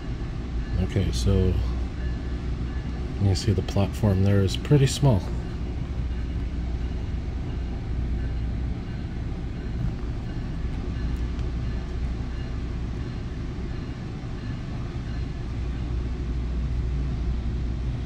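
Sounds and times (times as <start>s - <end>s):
train coach rumble from inside: 0.0s - 18.0s.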